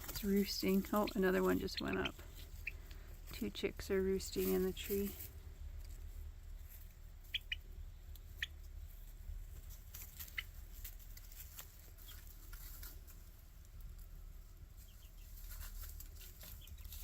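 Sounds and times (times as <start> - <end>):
chicks peeping and clucking: 0.0 - 17.0
low steady rumble: 0.0 - 17.0.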